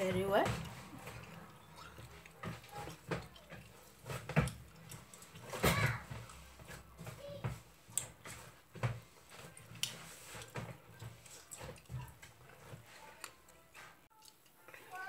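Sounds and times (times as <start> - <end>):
hands kneading wet dough: 0.0 - 15.0.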